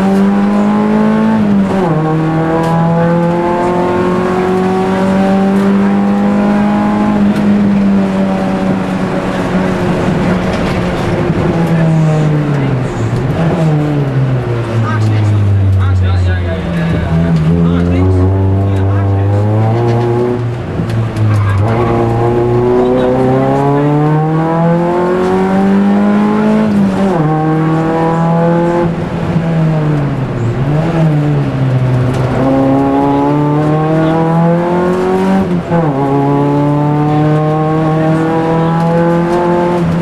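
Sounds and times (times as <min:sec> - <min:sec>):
rally car engine accelerating: 0:00.0 - 0:40.0.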